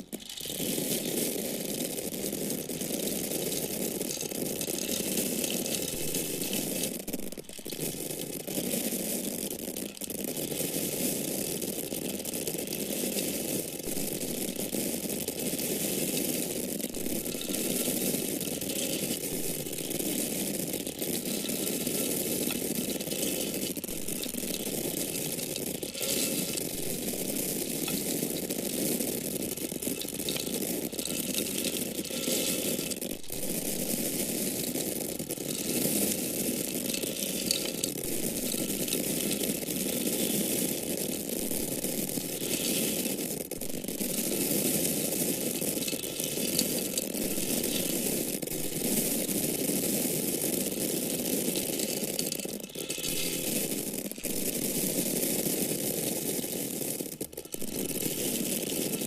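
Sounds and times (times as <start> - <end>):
dry corn kernels rattling: 0.0 - 59.0.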